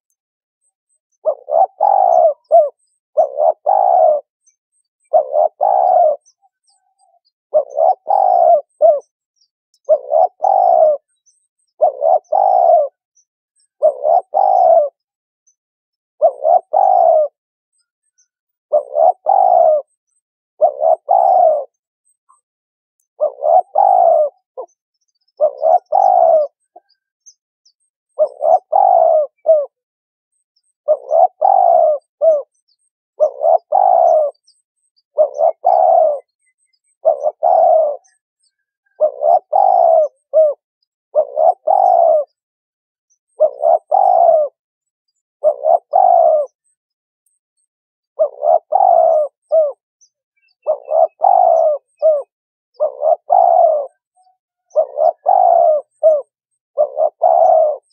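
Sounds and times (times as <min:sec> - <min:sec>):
dove cooing: 0:01.1 - 0:09.2, 0:09.8 - 0:15.2, 0:16.2 - 0:17.4, 0:18.7 - 0:20.0, 0:20.6 - 0:22.2, 0:23.1 - 0:27.1, 0:28.1 - 0:29.8, 0:30.8 - 0:42.4, 0:43.3 - 0:46.7, 0:48.1 - 0:49.8, 0:50.4 - 0:57.9.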